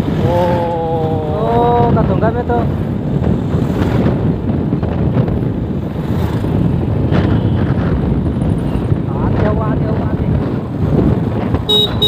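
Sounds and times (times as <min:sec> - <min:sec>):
motorcycle engine rumble: 0:00.0 - 0:12.0
wind noise on microphone: 0:00.0 - 0:12.0.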